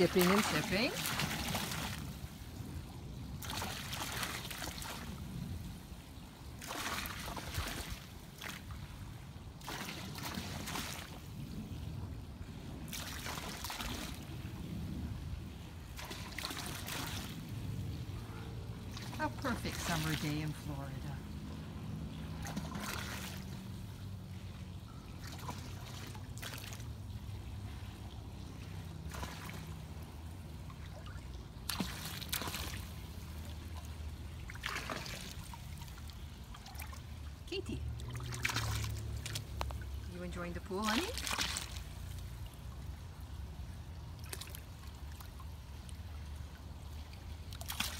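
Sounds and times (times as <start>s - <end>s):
low steady hum: 0.0s - 47.9s
pool water splashing: 0.0s - 47.9s.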